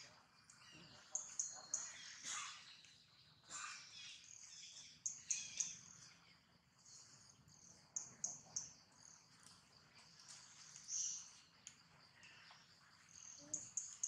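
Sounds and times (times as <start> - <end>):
faint high-pitched chirping: 0.0 - 14.0.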